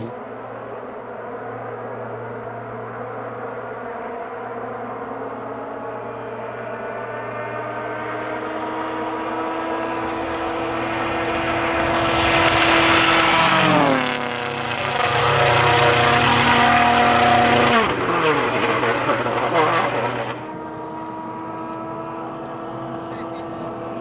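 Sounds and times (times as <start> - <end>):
rally car engine passing at speed: 0.0 - 24.0.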